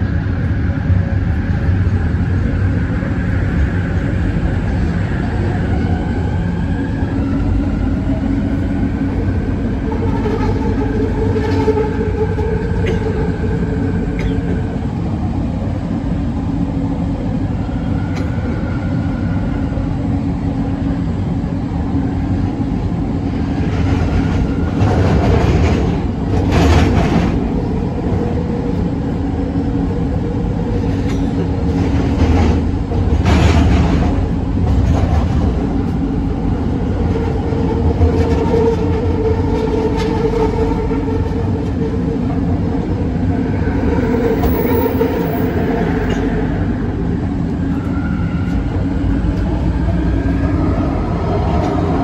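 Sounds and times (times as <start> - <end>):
wheel and rail rumble: 0.0 - 52.0.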